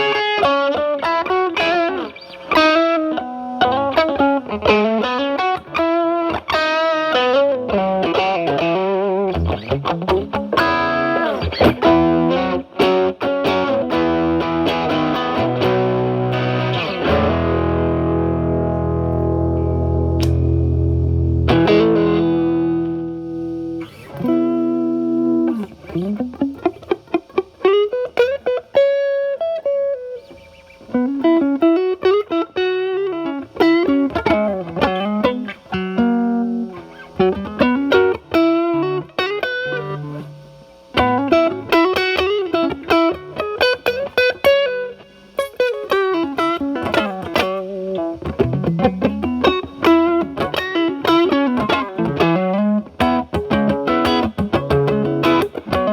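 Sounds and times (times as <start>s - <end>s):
overdriven electric guitar: 0.0s - 55.9s.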